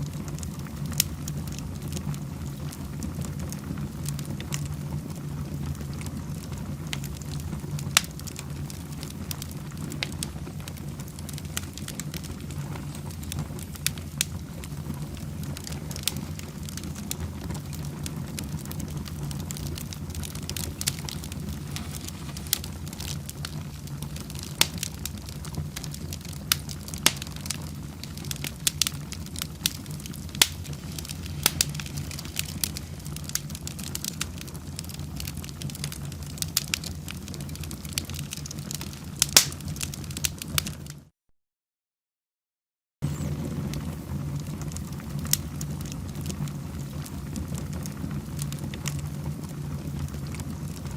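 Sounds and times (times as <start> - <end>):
fireplace fire crackling and popping: 0.0 - 41.1, 43.0 - 50.9.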